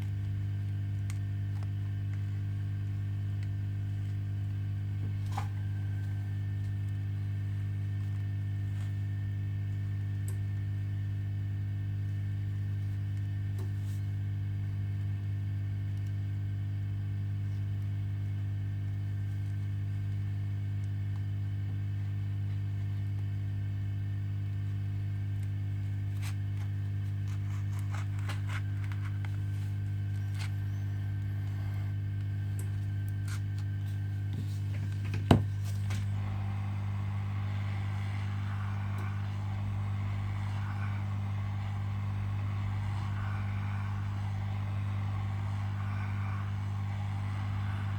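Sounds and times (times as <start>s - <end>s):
low electrical hum: 0.0s - 47.9s.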